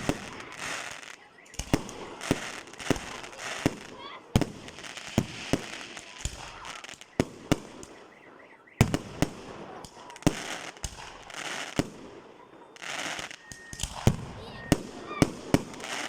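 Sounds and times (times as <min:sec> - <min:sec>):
firework bangs: 0:00.0 - 0:16.0
fireworks crackling: 0:00.0 - 0:16.0.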